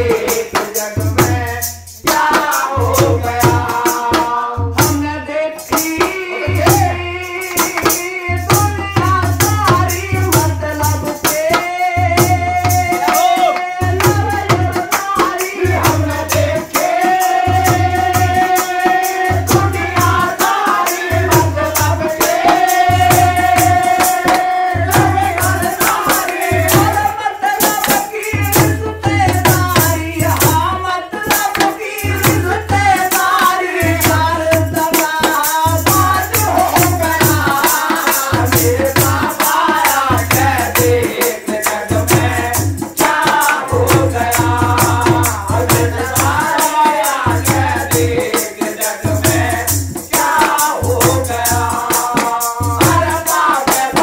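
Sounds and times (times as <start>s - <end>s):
barrel drum rhythm: 0.0s - 54.0s
hand percussion: 0.0s - 54.0s
man singing into a microphone: 0.0s - 54.0s.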